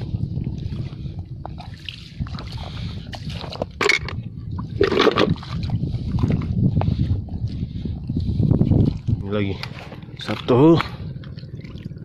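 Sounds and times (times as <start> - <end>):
low rumble: 0.0 - 12.0
seawater sloshing and splashing: 0.0 - 12.0.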